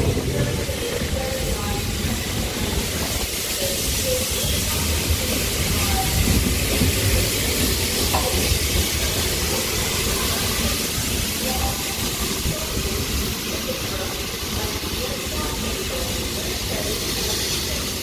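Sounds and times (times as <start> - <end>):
locomotive and wheels rumbling: 0.0 - 18.0
steam hissing: 0.0 - 18.0.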